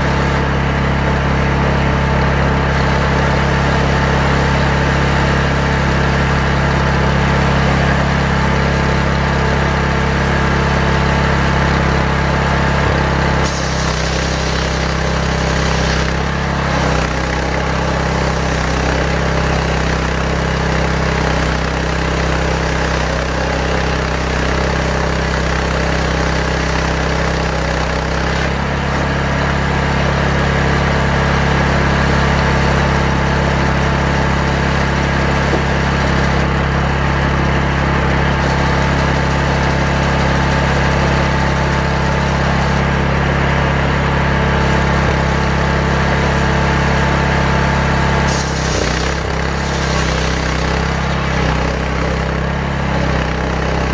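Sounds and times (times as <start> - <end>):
table saw ripping timber: 0.0 - 53.9
high saw whine: 9.9 - 53.9.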